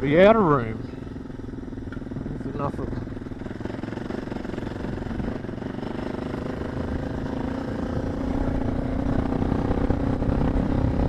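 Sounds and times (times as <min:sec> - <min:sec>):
motorcycle engine at high revs: 0:00.0 - 0:11.0.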